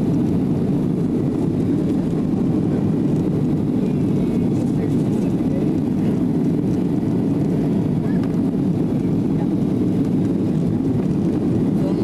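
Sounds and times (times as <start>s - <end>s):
jet engine cabin noise: 0.0s - 12.0s.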